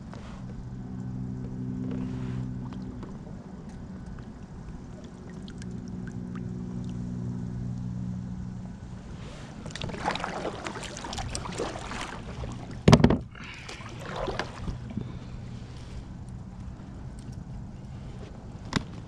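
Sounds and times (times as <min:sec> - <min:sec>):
low steady hum: 0:00.0 - 0:19.0
water splashing and sloshing: 0:01.8 - 0:07.1, 0:09.0 - 0:19.0.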